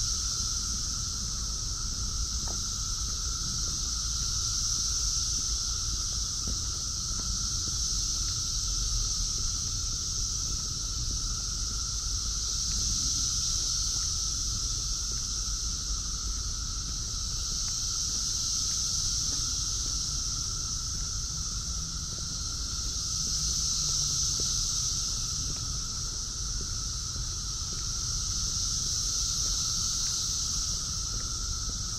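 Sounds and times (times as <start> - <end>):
cicadas chorusing: 0.0 - 31.9.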